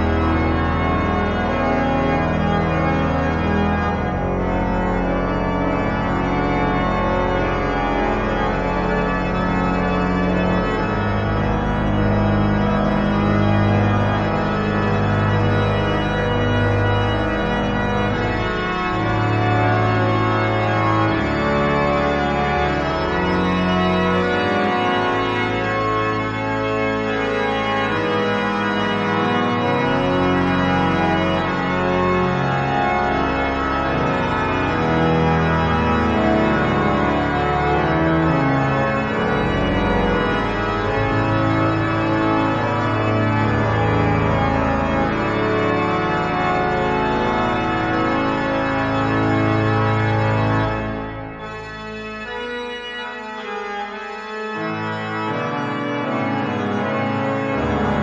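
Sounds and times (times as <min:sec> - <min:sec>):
low organ pedal notes: 0:00.0 - 0:58.0
pipe organ playing fugue: 0:00.0 - 0:58.0.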